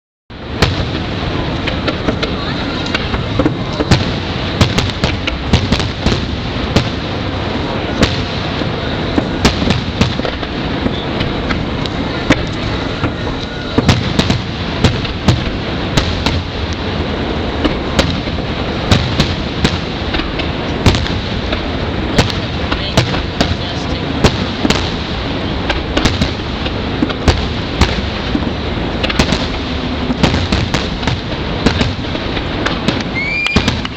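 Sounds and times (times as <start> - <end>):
rumble of booms: 0.3 - 33.9
sharp bangs: 0.5 - 33.9.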